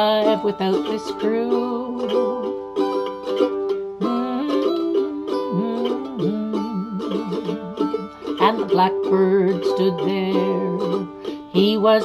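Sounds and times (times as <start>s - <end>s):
mandolin picking a melody: 0.0s - 12.0s
plucked chords: 0.0s - 12.0s.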